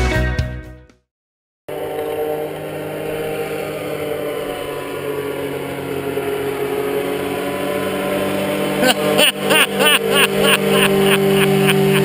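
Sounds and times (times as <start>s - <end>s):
paraglider engine drone: 1.7s - 12.0s.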